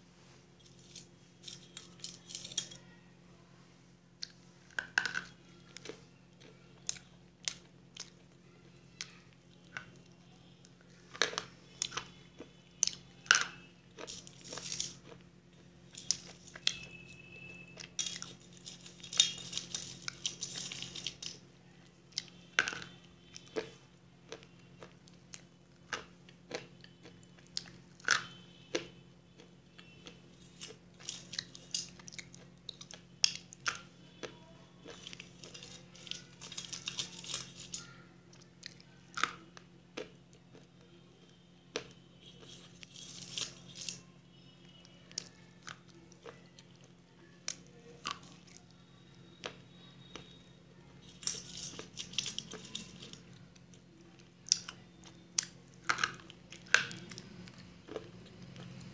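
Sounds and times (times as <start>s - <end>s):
chewing crunchy clay: 4.2s - 40.9s, 41.7s - 44.1s, 45.1s - 58.9s.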